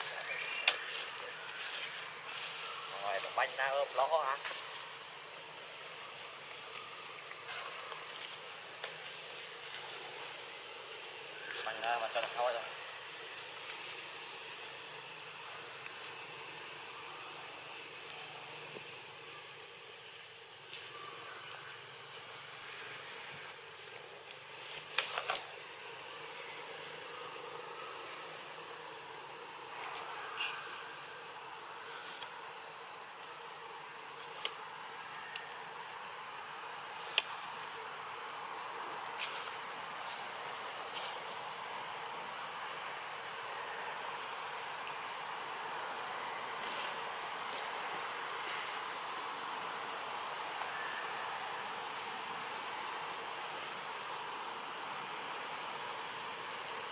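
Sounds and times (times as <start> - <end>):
chorus of insects: 0.0 - 56.9.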